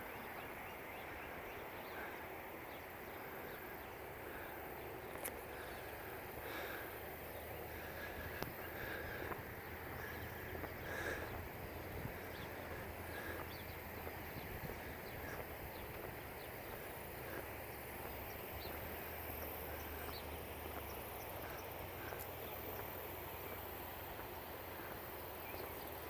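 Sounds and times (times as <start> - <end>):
outdoor background hum: 0.0 - 26.0
small birds chirping: 0.0 - 26.0.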